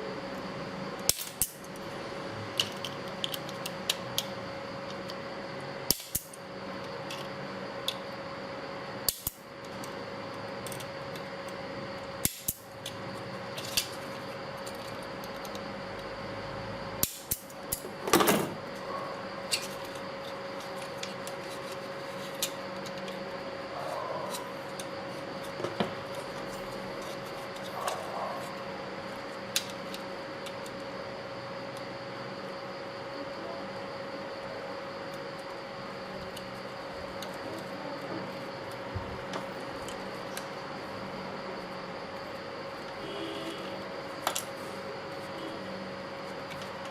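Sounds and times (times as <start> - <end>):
steady hum: 0.0 - 46.9.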